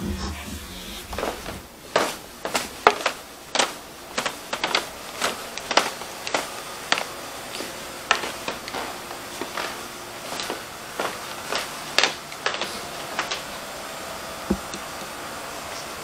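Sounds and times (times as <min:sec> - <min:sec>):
footsteps on wooden stairs: 0:00.0 - 0:13.7, 0:14.4 - 0:15.2.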